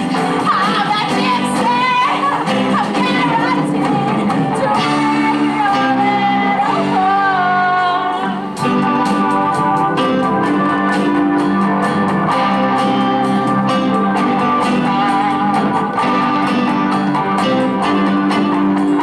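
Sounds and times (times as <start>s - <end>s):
electric guitar: 0.0s - 19.0s.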